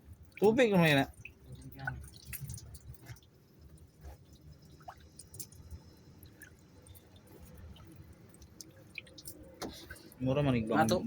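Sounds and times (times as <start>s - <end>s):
faint water drips: 0.0s - 11.0s.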